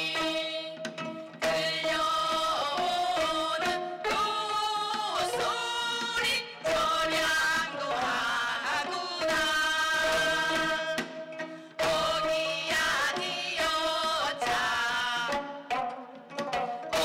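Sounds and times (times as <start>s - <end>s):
women singing in unison: 0.0s - 15.5s
drum accompaniment: 0.0s - 17.0s
plucked zither strings: 0.0s - 17.0s.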